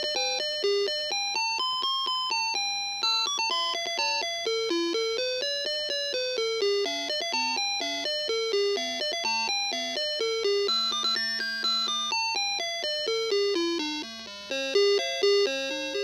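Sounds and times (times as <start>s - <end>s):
alarm clock chime melody: 0.0s - 16.0s.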